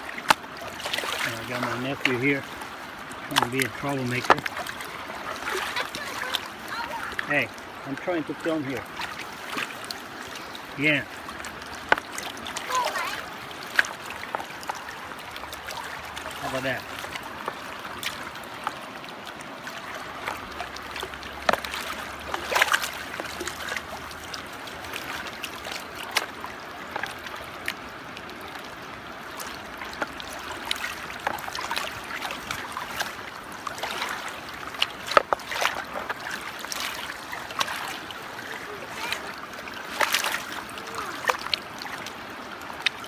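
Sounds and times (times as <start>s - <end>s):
creek water running over rocks: 0.0s - 43.0s
small water splashes: 0.0s - 43.0s.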